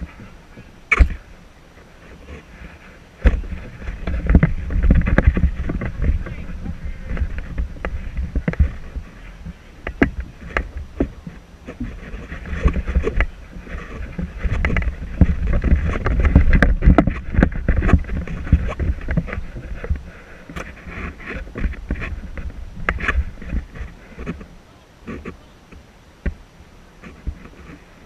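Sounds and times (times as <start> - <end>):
sharp clicks and knocks: 0.0 - 1.2, 3.2 - 26.4
wind buffeting microphone: 0.0 - 28.0.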